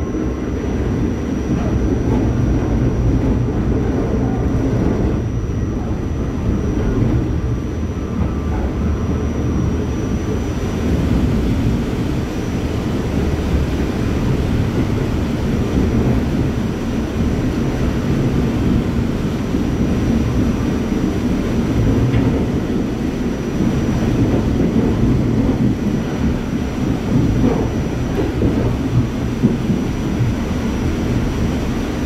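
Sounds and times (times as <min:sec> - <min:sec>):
subway train rumbling on rails: 0:00.0 - 0:32.0.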